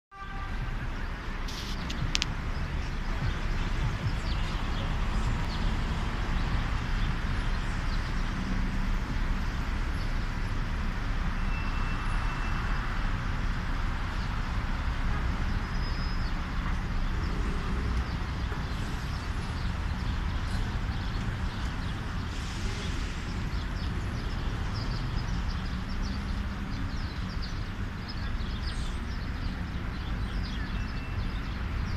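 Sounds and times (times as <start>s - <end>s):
city traffic rumble: 0.1s - 31.9s.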